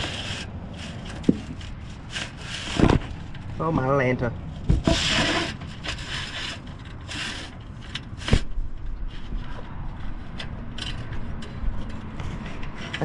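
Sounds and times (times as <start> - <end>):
wire scraping and rubbing: 0.0 - 3.7, 4.5 - 13.0.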